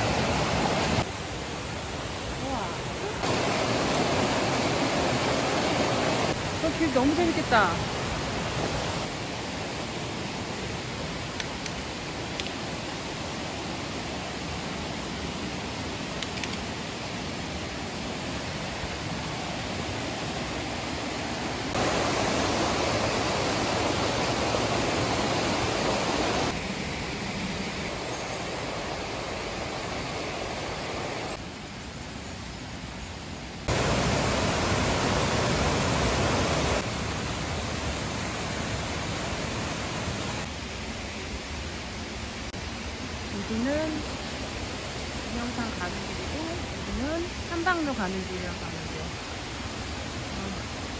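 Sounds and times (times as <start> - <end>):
stream rushing over rocks: 0.0 - 31.8, 32.6 - 50.9.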